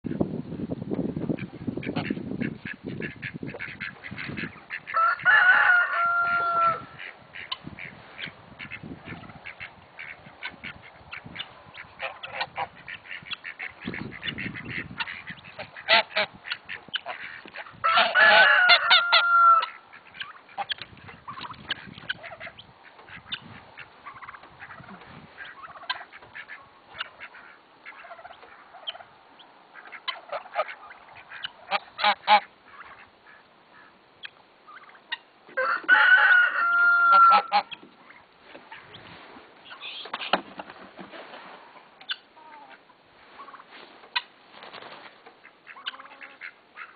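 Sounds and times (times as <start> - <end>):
geese ducks and chickens calling: 1.3 - 46.9.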